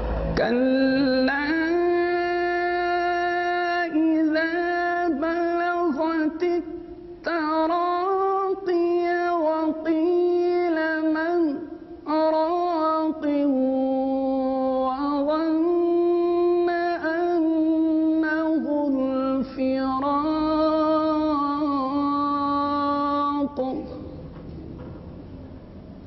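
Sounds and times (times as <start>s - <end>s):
man reciting melodically: 0.4s - 24.4s.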